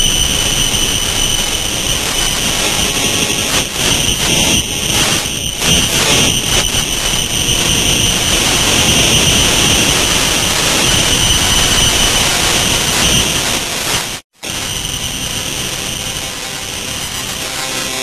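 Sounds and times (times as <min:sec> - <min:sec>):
harsh distorted noise: 0:00.0 - 0:18.0
steady high tone: 0:00.0 - 0:18.0.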